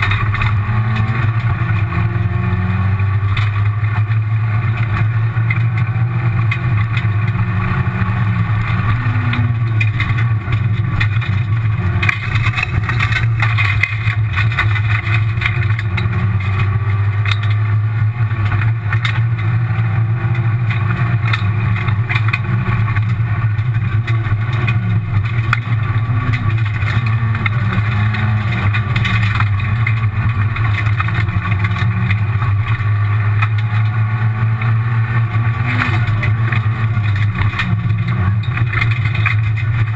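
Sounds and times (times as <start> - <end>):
loud clatter: 0.0 - 39.9
rally car engine revving: 0.0 - 39.9
road and gravel noise: 0.0 - 39.9.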